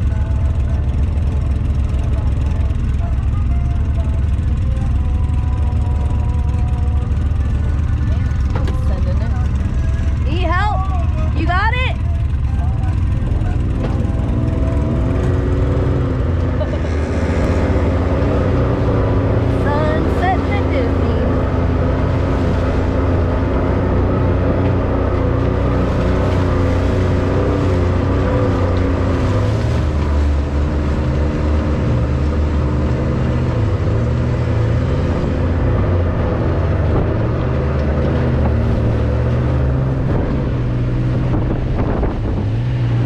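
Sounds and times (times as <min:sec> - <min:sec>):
utility vehicle engine running hard: 0:00.0 - 0:43.0.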